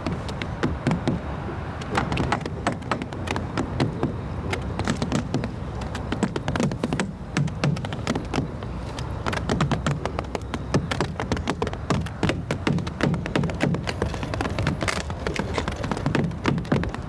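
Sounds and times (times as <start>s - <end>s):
hammers tapping on bark roof: 0.0s - 17.0s.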